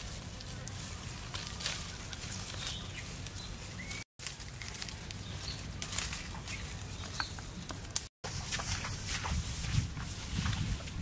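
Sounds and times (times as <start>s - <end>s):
leaves and stems rustling: 0.0s - 11.0s.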